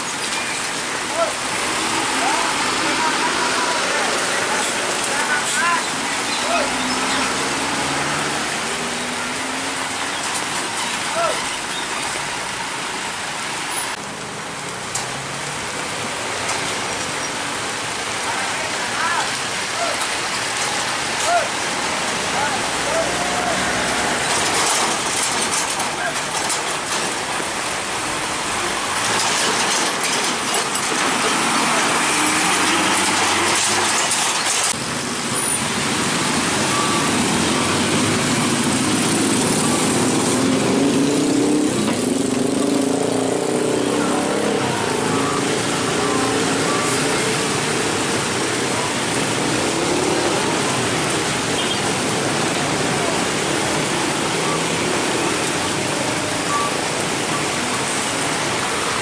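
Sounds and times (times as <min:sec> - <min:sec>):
trucks passing: 0:00.0 - 0:59.0.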